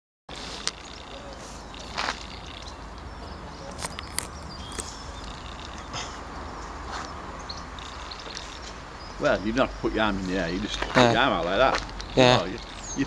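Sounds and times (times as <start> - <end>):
outdoor background hiss: 0.3 - 13.0.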